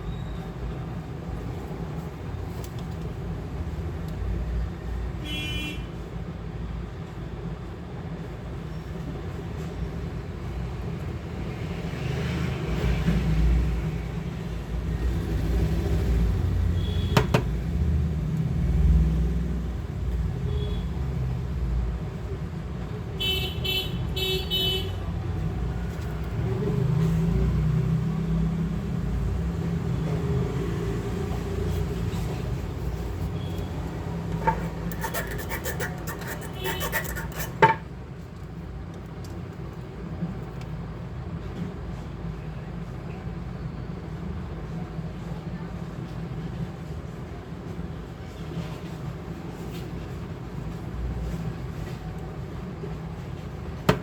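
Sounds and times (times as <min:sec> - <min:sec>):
low rumbling background noise: 0:00.0 - 0:54.0.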